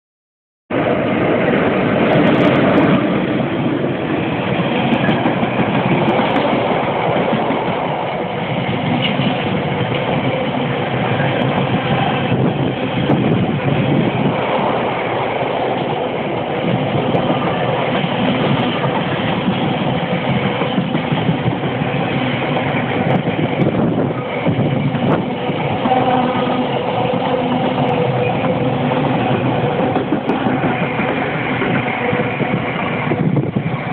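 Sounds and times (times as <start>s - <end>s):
electric locomotive passing: 0.7s - 33.9s
train wheels rushing on rail: 0.7s - 33.9s.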